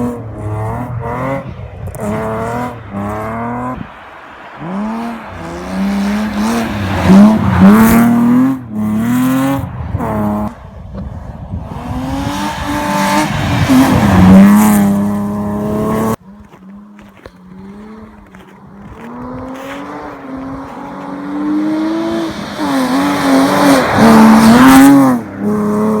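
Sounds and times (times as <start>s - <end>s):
car engine revving hard: 0.0s - 10.6s, 11.6s - 16.6s, 17.5s - 26.0s.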